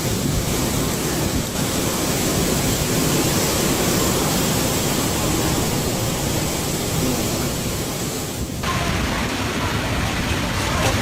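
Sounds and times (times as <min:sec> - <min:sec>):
strong wind and rain: 0:00.0 - 0:11.0.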